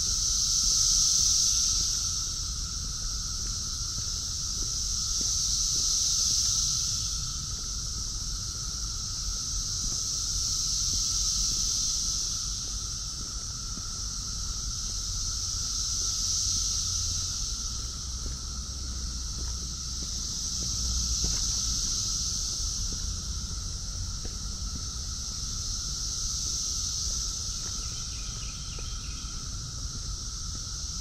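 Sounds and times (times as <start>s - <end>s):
cicadas buzzing in waves: 0.0s - 31.0s.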